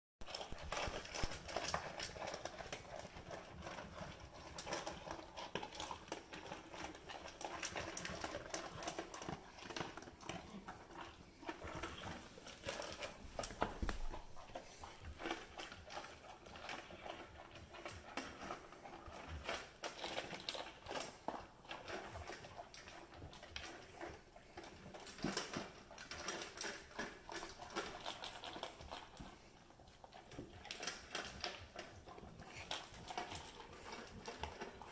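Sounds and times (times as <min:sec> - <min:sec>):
dogs crunching kibble in metal bowls: 0:00.2 - 0:34.9.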